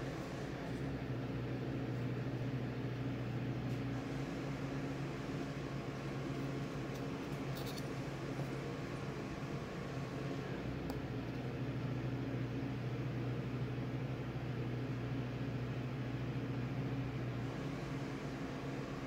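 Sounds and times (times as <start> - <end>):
low mechanical hum with hiss: 0.0 - 19.0.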